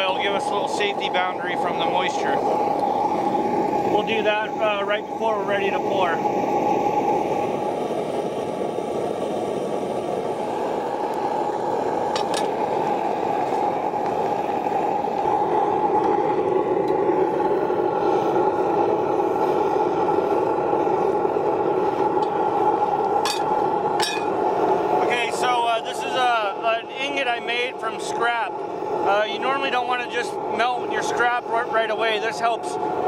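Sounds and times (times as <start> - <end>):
furnace burner rushing: 0.0 - 33.0.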